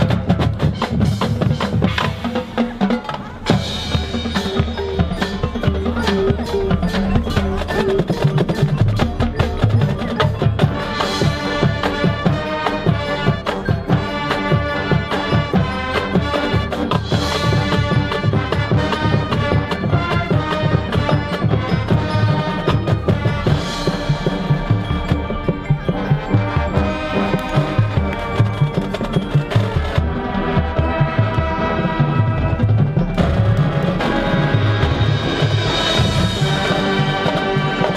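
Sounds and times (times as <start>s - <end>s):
marching band wind instruments: 0.0s - 37.9s
rapid drum and percussion strikes: 0.0s - 37.9s.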